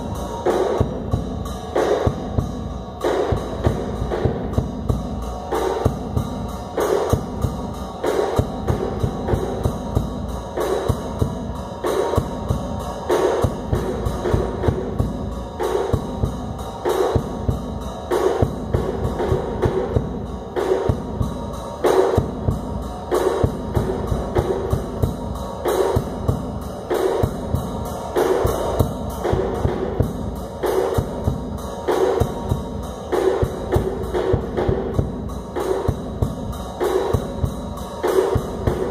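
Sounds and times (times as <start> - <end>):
drum kit playing a groove: 0.0 - 38.9.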